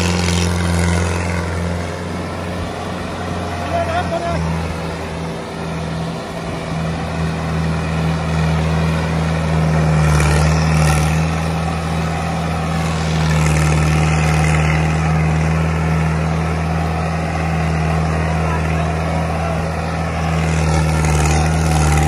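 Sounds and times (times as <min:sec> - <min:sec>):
tractor diesel engine droning: 0:00.0 - 0:22.0.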